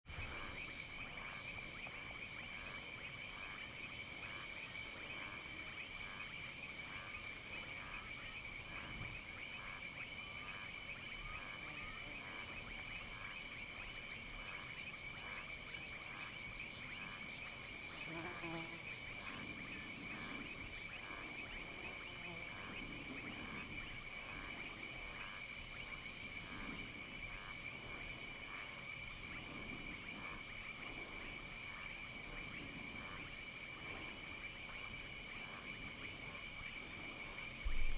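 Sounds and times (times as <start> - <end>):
insects trilling: 0.1 - 37.9.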